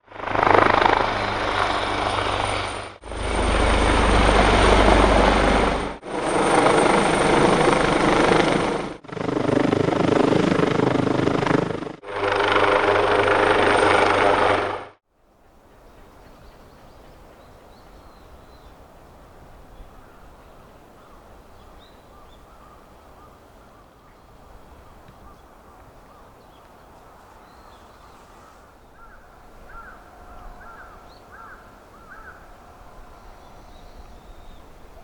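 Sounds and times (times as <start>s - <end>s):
helicopter engines and rotor: 0.0s - 18.8s, 19.6s - 35.0s
quiet outdoor background: 0.0s - 35.0s.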